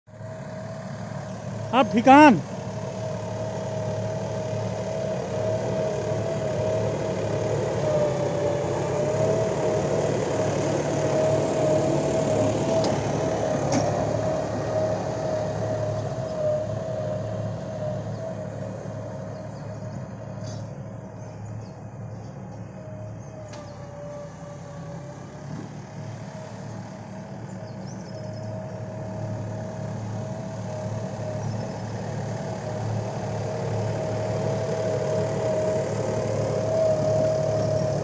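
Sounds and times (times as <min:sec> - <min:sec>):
tractor engine under load: 0:00.2 - 0:21.6, 0:22.7 - 0:38.0.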